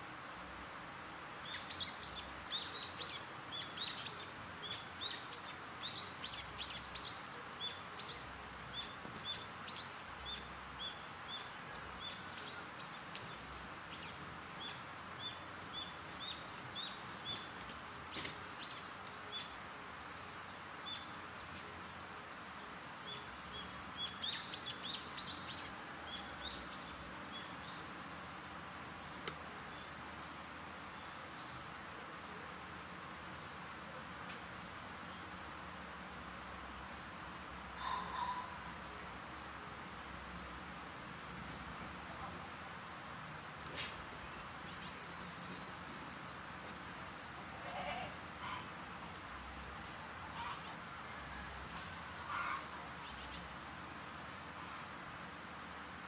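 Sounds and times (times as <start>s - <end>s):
outdoor background hiss: 0.0s - 56.0s
small birds chirping: 0.4s - 55.7s.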